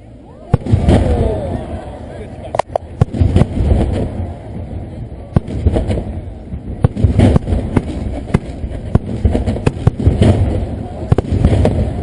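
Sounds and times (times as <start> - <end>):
low booming rumble: 0.0 - 12.0
fireworks bursting with sharp cracks: 0.4 - 1.8, 2.5 - 12.0.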